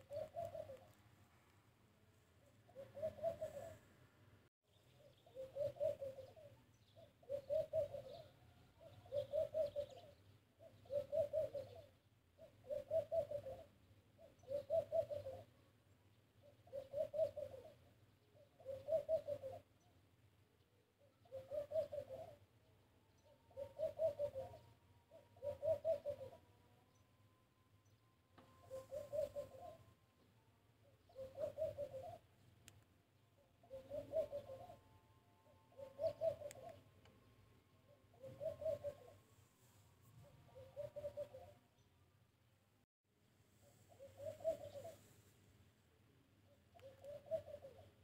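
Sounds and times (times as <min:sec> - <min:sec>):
dove cooing: 0:00.0 - 0:01.0, 0:02.6 - 0:03.9, 0:05.0 - 0:15.7, 0:16.4 - 0:19.9, 0:20.8 - 0:27.0, 0:27.8 - 0:32.4, 0:33.4 - 0:41.8, 0:43.6 - 0:45.3, 0:46.4 - 0:48.0.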